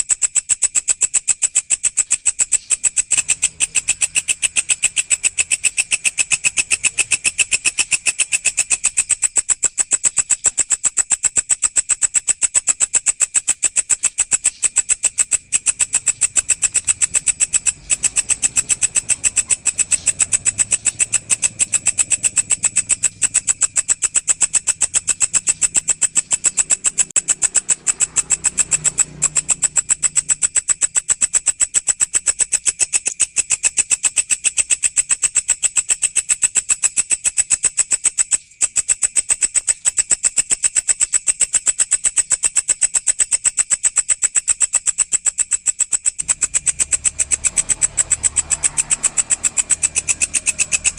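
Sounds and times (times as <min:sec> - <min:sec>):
grasshopper stridulating: 0:00.0 - 0:50.9.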